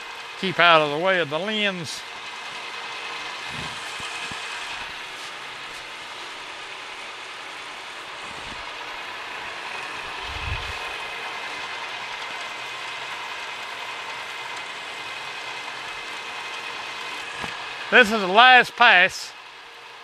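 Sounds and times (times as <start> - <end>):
milling machine cutting metal: 0.0 - 19.8.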